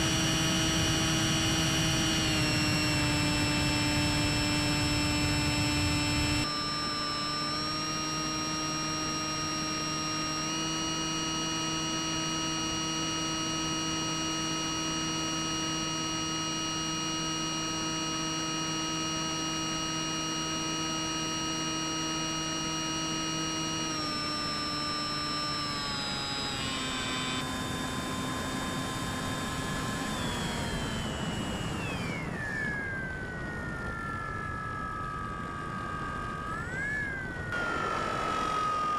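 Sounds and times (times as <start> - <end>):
model plane motor whining: 0.0 - 38.9.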